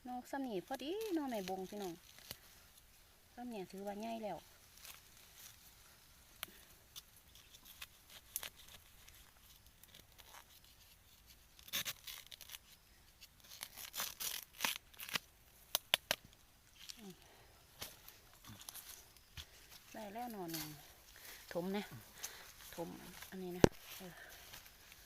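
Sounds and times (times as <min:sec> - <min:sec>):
bamboo cracking and tearing: 0:00.2 - 0:25.0.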